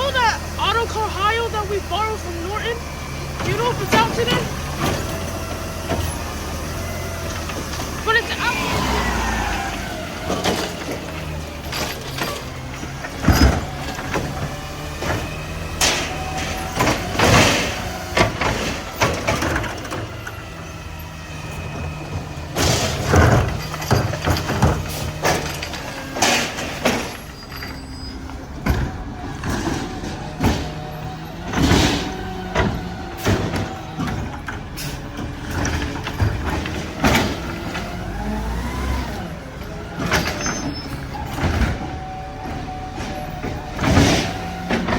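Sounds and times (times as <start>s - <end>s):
diesel engine revving: 0.0s - 44.9s
hydraulic pump whining: 0.0s - 44.9s
bangs and clanks of trash: 3.3s - 44.9s.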